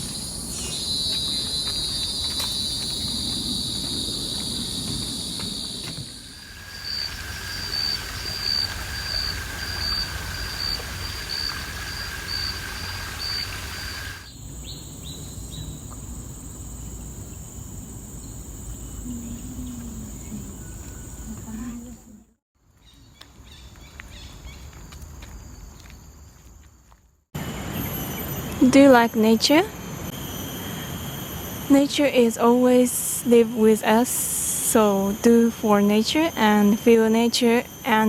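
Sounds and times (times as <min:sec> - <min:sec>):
insects trilling and chirping: 0:00.0 - 0:22.2, 0:23.5 - 0:38.0.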